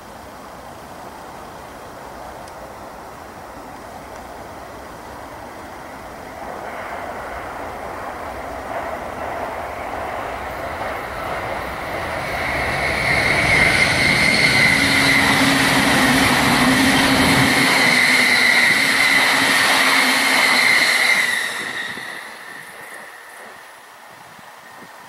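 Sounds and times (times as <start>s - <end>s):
electric train passing: 2.0s - 25.0s.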